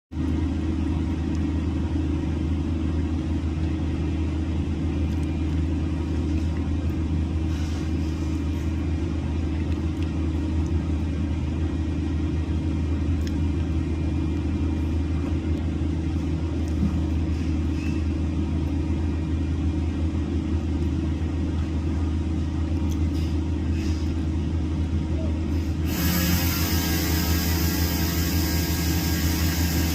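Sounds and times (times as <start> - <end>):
diesel engine rumbling: 0.1 - 29.9.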